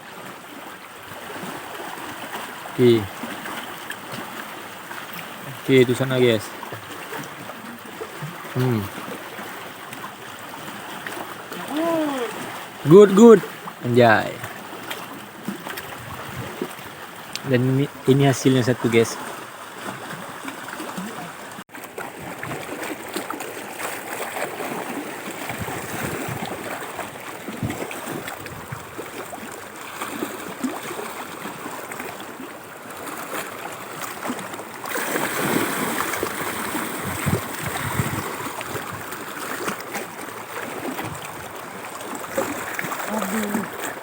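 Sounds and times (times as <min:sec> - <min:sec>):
sea water washing against rocks: 0:01.0 - 0:44.0.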